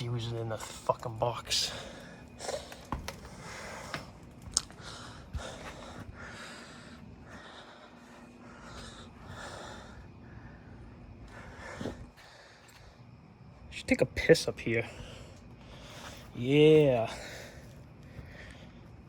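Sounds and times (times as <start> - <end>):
man breathing heavily: 1.6 - 13.4, 14.8 - 19.0.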